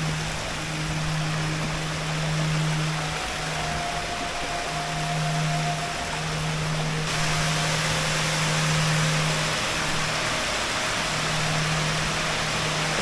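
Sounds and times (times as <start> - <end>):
low sustained musical note: 0.0 - 13.0
stream water rushing: 0.0 - 13.0.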